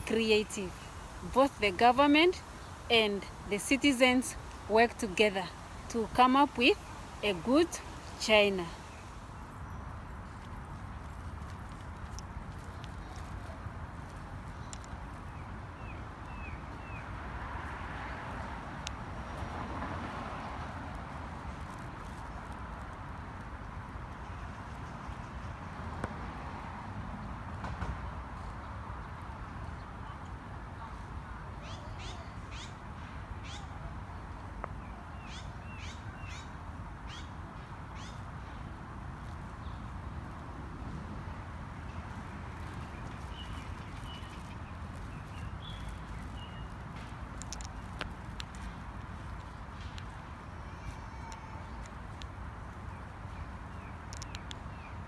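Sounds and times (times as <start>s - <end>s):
low street rumble: 0.0s - 55.0s.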